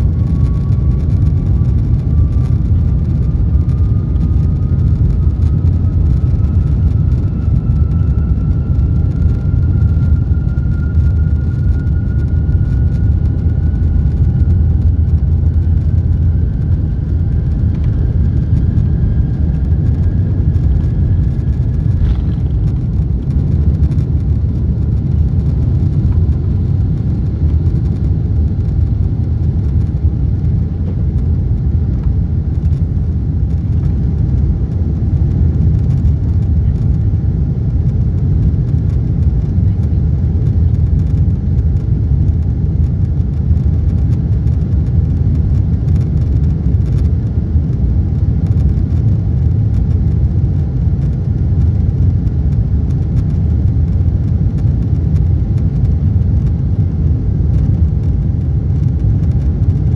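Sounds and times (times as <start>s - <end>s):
faint rising whine: 0.0s - 56.6s
jet engines rumbling: 0.0s - 59.9s.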